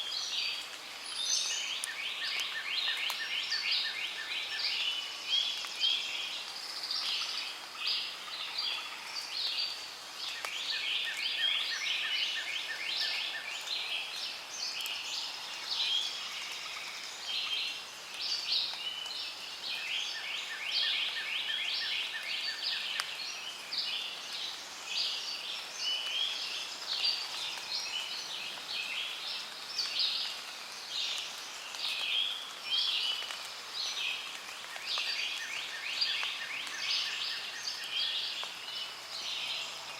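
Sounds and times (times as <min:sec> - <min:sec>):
chorus of bird chirps: 0:00.0 - 0:39.9.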